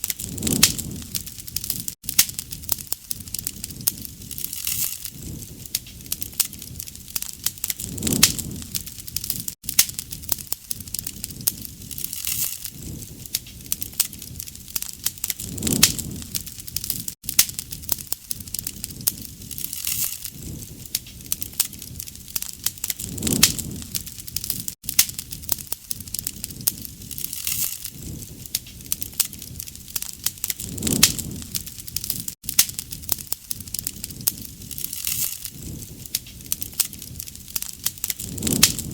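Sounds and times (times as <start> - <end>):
campfire crackling and popping: 0.0 - 38.9
low rushing of flame: 0.0 - 38.9.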